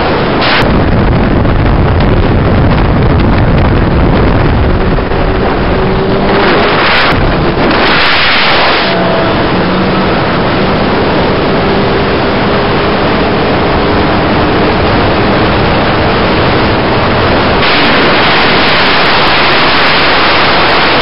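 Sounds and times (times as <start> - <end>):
faint engine drone: 0.0 - 21.0
wind rushing over microphone: 0.0 - 21.0.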